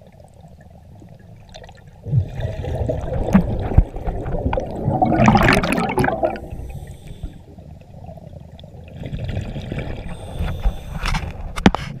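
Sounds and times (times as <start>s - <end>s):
low underwater rumble: 0.0s - 11.6s
underwater exhaled bubbles: 0.0s - 11.6s.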